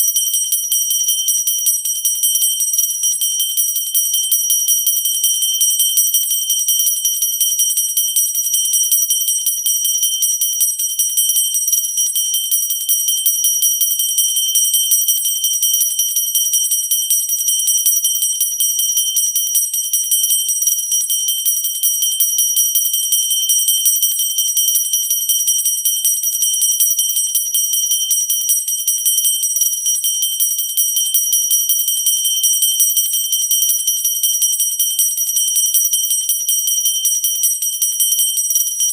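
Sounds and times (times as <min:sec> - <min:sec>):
hand bell ringing rapidly: 0:00.0 - 0:38.9.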